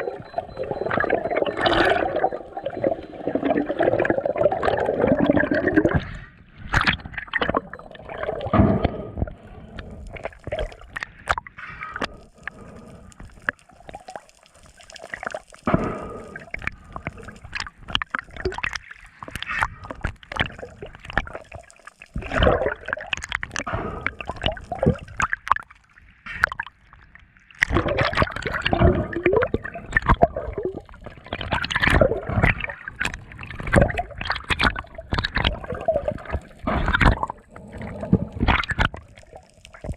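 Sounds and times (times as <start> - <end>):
sharp clicks and splashes: 0.0 - 39.9
water gurgling and sloshing: 0.0 - 39.9.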